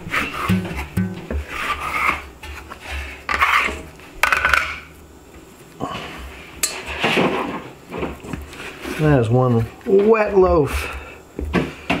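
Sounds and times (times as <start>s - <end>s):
dough rustling and scraping: 0.0s - 4.2s, 4.9s - 12.0s.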